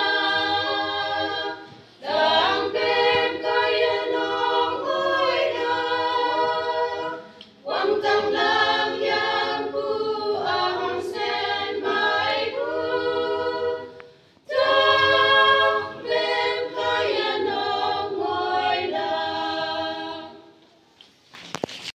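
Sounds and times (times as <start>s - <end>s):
women's choir singing a hymn: 0.0s - 20.6s.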